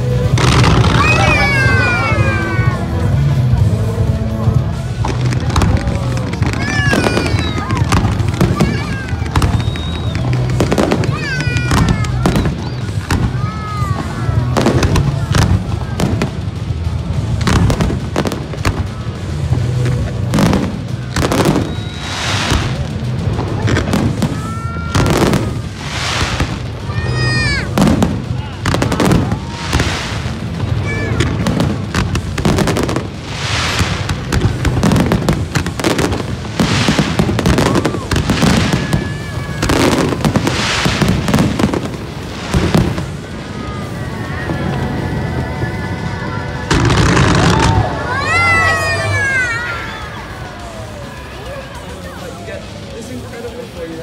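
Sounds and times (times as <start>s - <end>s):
fireworks bangs and pops: 0.0s - 45.8s, 46.5s - 54.0s.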